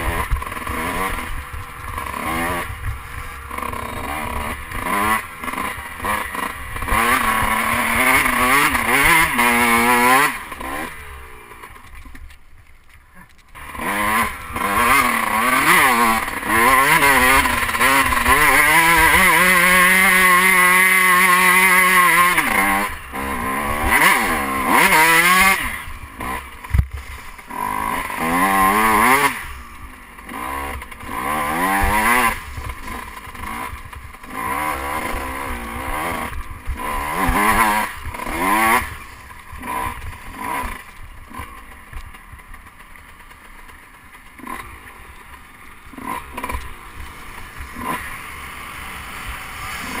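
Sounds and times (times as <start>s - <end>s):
dirt bike engine revving: 0.0s - 12.1s, 13.1s - 50.0s.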